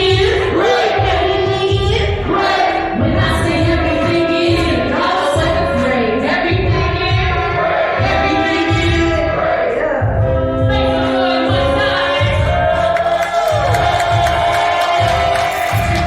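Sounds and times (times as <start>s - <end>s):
pulsing bass beat: 0.0s - 16.0s.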